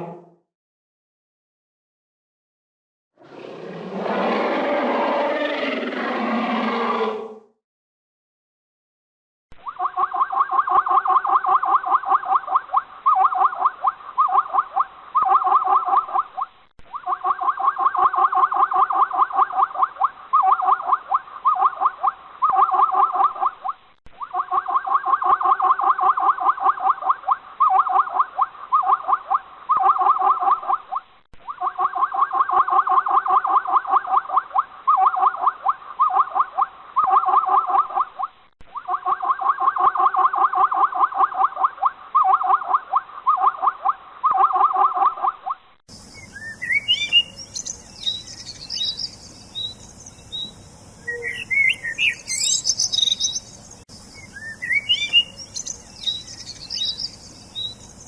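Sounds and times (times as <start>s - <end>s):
animal chirping: 9.7s - 58.0s.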